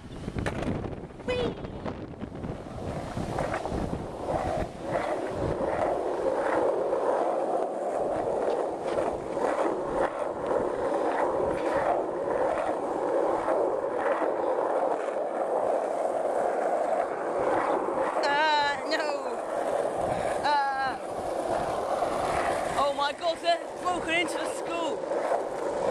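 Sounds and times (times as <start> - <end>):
skate wheels rolling on pavement: 0.0 - 25.9.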